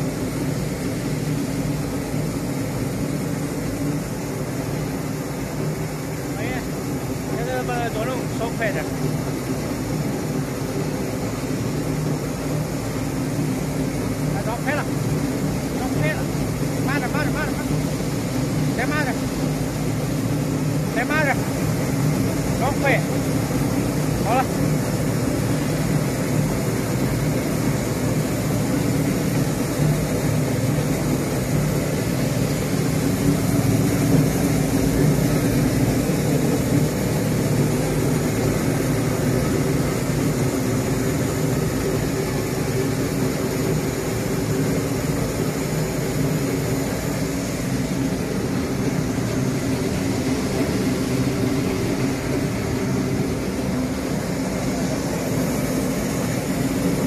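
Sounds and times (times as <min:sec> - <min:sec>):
machine motor hum: 0:00.0 - 0:57.0.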